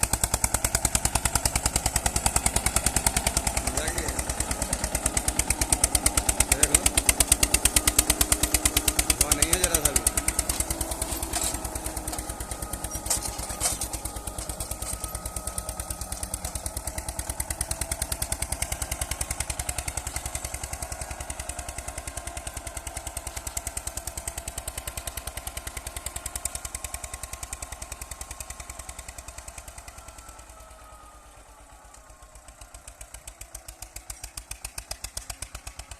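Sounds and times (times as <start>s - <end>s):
tractor diesel engine chugging: 0.0s - 35.9s.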